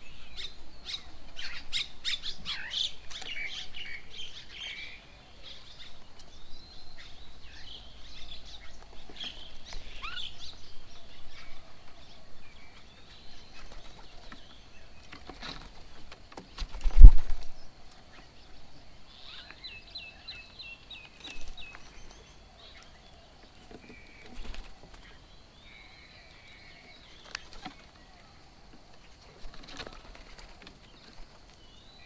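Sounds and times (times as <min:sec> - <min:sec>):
birds chirping and calling: 0:00.0 - 0:32.0.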